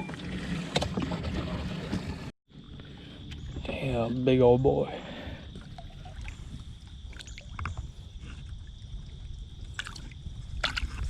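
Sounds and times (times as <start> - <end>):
low rumble of wind and water: 0.0 - 11.0.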